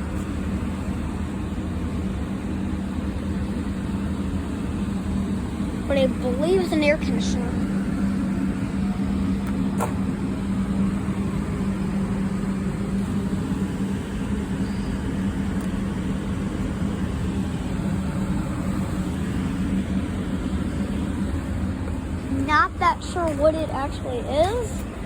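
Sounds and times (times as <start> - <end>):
air conditioner fan drone: 0.0 - 25.0.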